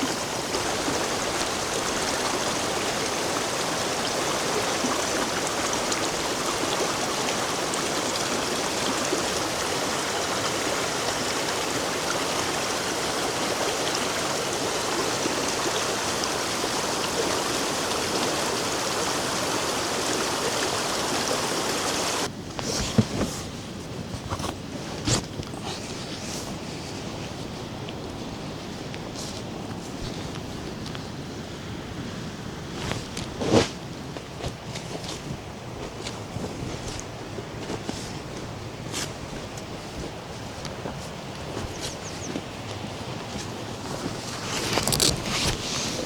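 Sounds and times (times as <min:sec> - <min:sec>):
waterfall and stream rushing: 0:00.0 - 0:22.3, 0:26.2 - 0:46.0.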